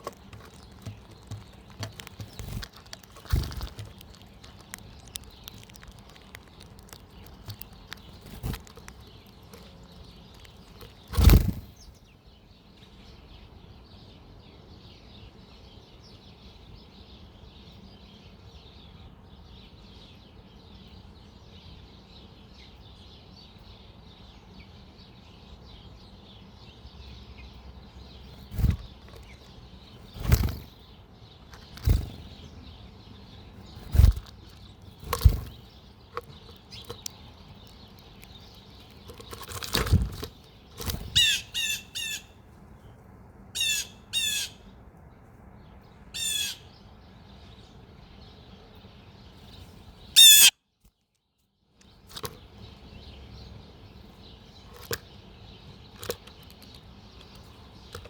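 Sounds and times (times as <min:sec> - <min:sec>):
soft outdoor hiss: 0:00.0 - 0:58.0.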